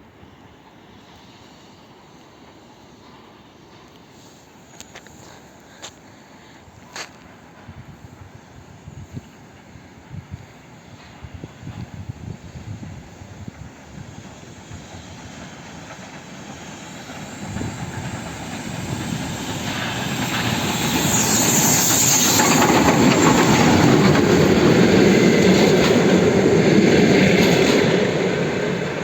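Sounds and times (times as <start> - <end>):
steam locomotive passing: 0.0 - 29.0.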